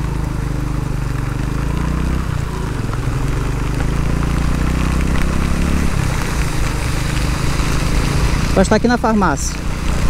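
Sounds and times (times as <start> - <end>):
motorcycle engine running: 0.0 - 10.0
rain hissing: 0.0 - 10.0.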